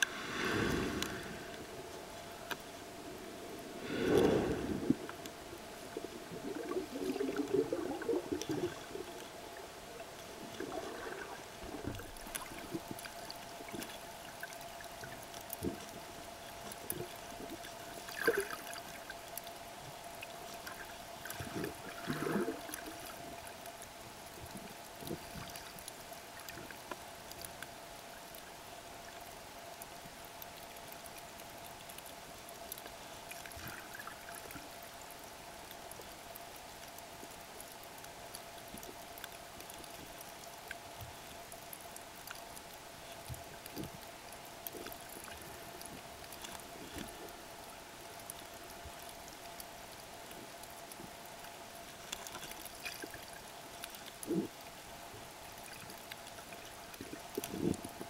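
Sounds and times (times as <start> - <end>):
faint clicks: 0.0 - 2.7, 10.1 - 58.0
underwater water churning and bubbling: 0.0 - 58.0.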